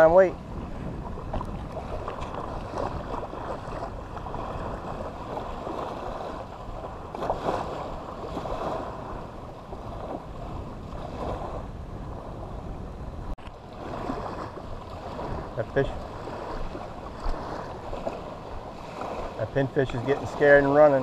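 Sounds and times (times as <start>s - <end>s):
small waves washing on beach: 0.0s - 21.0s
wind rumbling on microphone: 0.0s - 21.0s.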